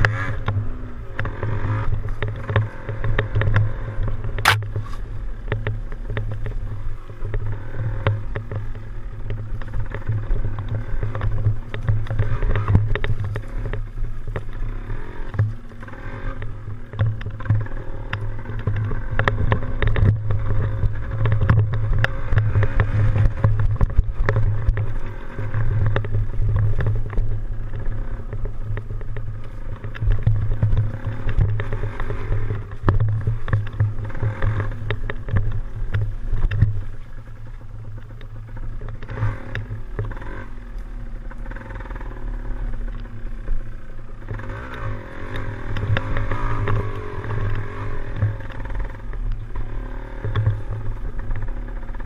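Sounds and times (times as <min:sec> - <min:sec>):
two-stroke dirt bike engine: 0:00.0 - 0:52.0
wind rumbling on microphone: 0:00.0 - 0:52.0.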